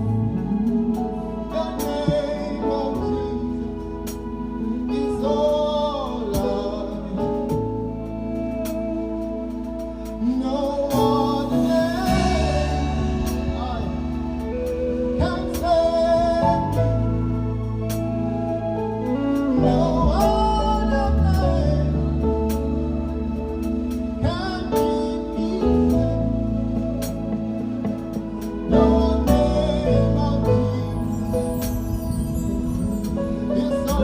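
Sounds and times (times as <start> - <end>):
gospel band playing: 0.0 - 34.0
low bass notes: 0.0 - 34.0
person singing: 0.0 - 34.0.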